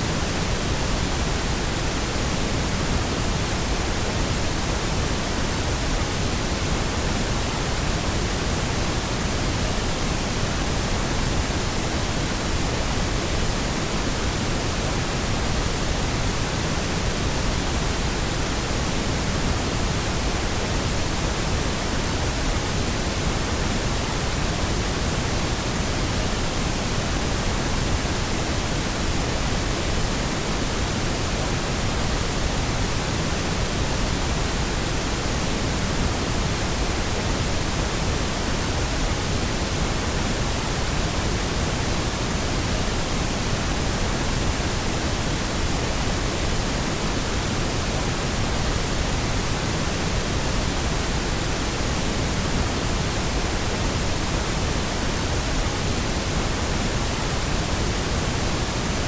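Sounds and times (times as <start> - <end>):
steady pink noise hiss: 0.0 - 59.0.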